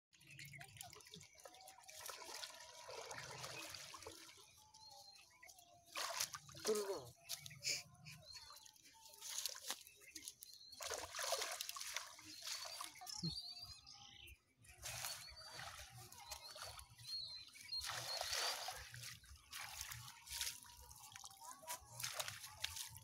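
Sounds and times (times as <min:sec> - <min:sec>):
water sloshing and dripping: 0:00.2 - 0:13.4, 0:14.7 - 0:23.0.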